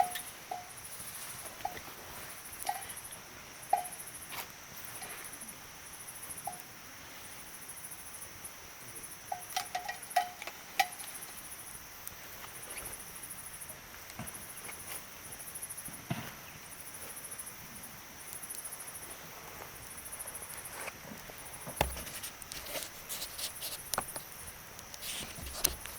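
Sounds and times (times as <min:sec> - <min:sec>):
campfire crackling and popping: 0:00.0 - 0:06.9, 0:09.1 - 0:16.0, 0:18.2 - 0:25.9
insects chirping: 0:00.0 - 0:25.9.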